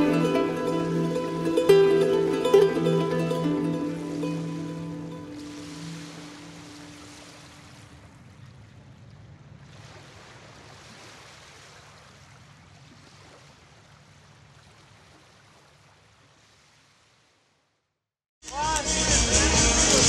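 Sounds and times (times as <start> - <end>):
ocean surf washing on beach: 0.0 - 17.2.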